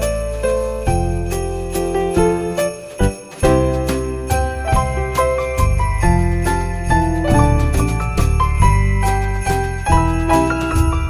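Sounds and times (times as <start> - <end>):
festive holiday tune with sleigh bells: 0.0 - 11.0.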